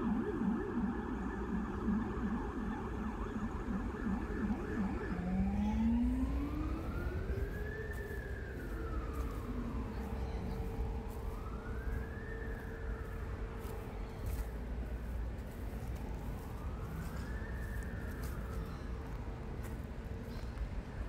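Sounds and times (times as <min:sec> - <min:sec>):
emergency vehicle siren: 0:00.0 - 0:21.0
traffic rumble: 0:00.0 - 0:21.0.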